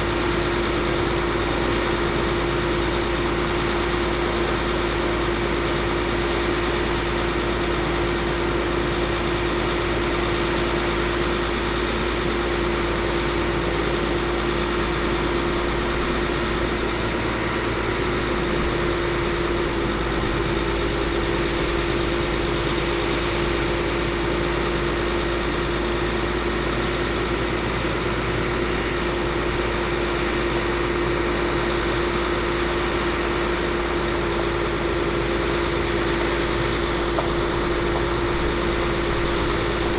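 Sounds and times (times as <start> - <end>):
constant steady tone: 0.0 - 39.9
diesel truck engine idling: 0.0 - 39.9.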